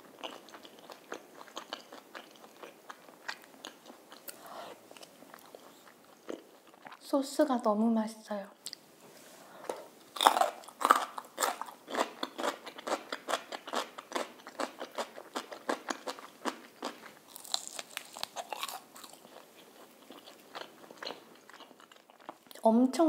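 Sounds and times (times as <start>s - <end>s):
chewing crispy fried food: 0.0s - 7.1s, 9.6s - 22.6s.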